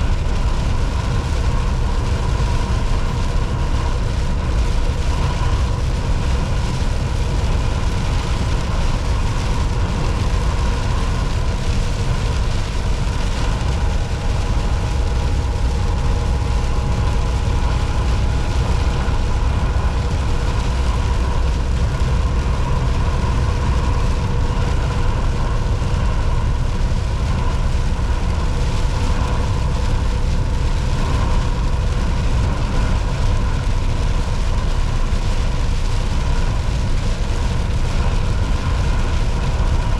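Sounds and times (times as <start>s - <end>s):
faint steady whine: 0.0s - 39.9s
road noise: 0.0s - 39.9s
truck engine drone: 0.0s - 39.9s.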